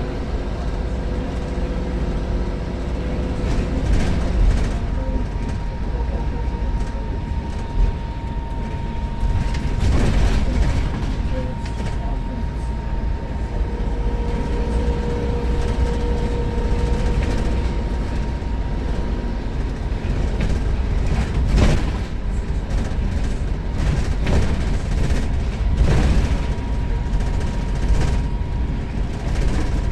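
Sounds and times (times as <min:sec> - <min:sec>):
bus diesel engine rumbling: 0:00.0 - 0:29.9.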